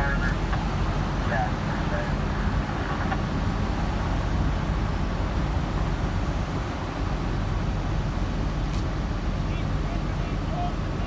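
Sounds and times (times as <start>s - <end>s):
diesel engines rumbling: 0.0s - 11.0s.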